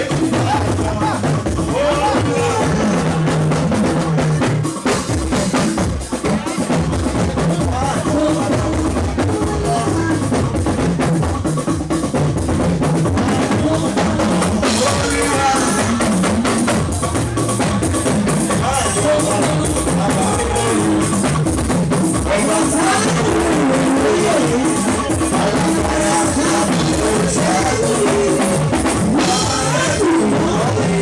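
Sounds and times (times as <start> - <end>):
drum kit beat: 0.0 - 31.0
live band music: 0.0 - 31.0.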